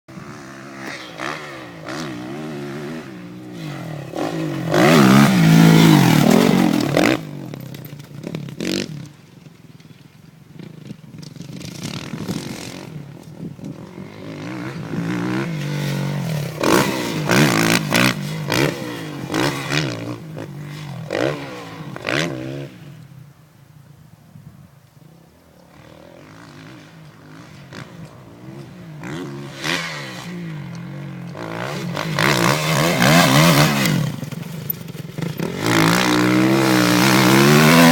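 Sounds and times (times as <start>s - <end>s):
dirt bike engine revving: 0.1s - 9.2s, 10.6s - 22.9s, 25.7s - 37.9s.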